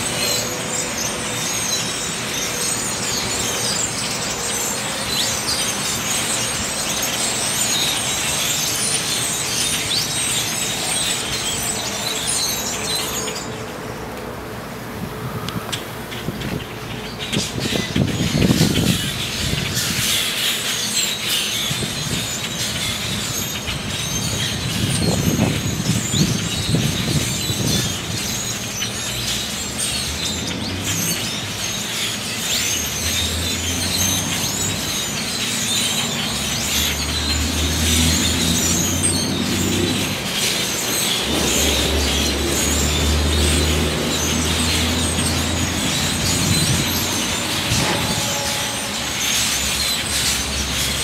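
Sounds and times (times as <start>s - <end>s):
flock of birds chirping: 0.0s - 14.3s, 15.0s - 51.0s.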